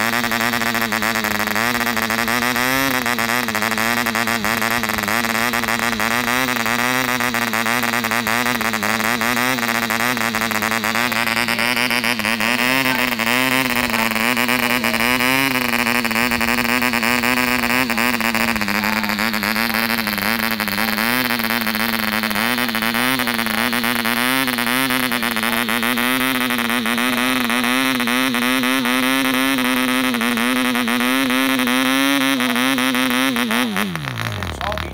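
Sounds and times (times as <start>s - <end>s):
model diesel engine running: 0.0s - 34.9s.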